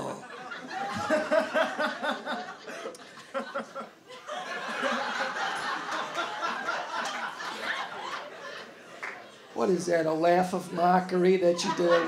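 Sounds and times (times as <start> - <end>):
audience laughing: 0.0 - 9.6, 11.2 - 12.0.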